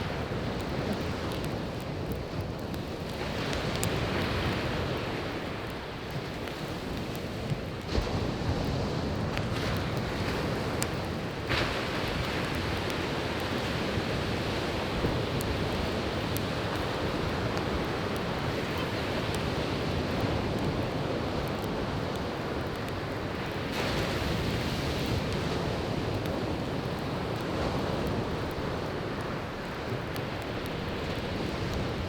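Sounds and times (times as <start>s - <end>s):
campfire crackling: 0.0s - 32.0s
sea waves washing on shore: 0.0s - 32.0s.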